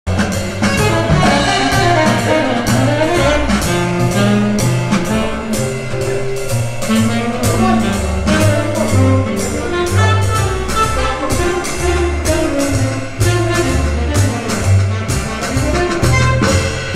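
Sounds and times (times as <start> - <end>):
music with brass and beat: 0.1 - 16.9.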